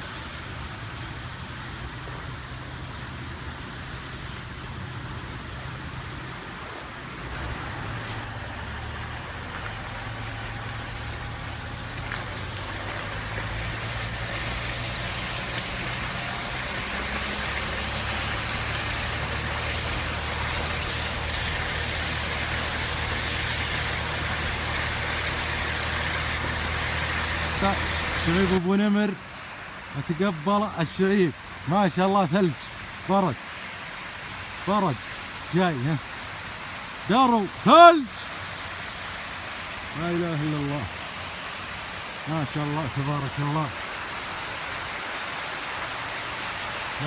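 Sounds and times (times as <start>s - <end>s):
car engine humming: 0.0s - 47.0s
rain hissing: 0.0s - 47.0s.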